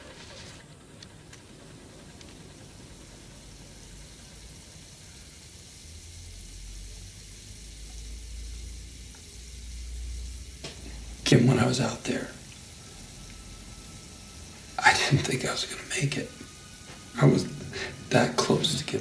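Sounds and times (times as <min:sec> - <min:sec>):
faint room hiss: 0:00.0 - 0:19.0
low hum: 0:00.0 - 0:19.0.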